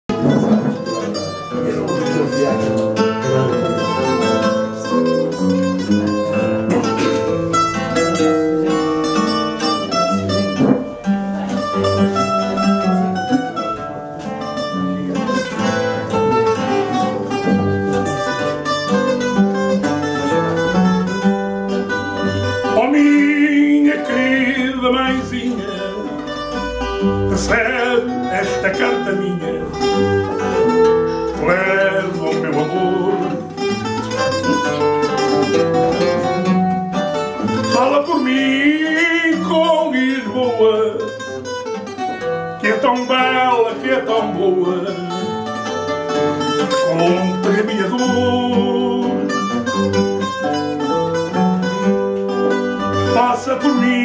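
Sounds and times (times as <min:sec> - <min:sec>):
classical guitar chords: 0:00.0 - 0:54.0
guitar playing melody: 0:00.0 - 0:54.0.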